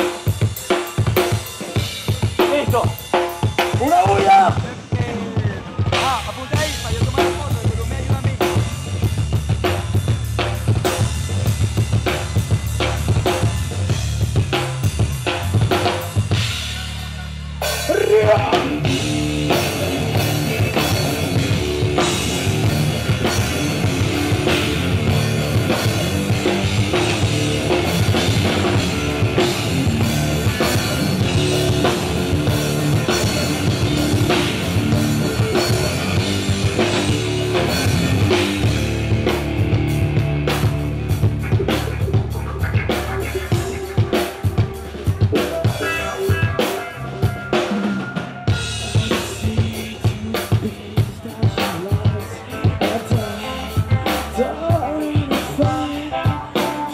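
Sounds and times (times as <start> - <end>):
drum kit: 0.0 - 56.9
live rock band playing: 0.0 - 56.9.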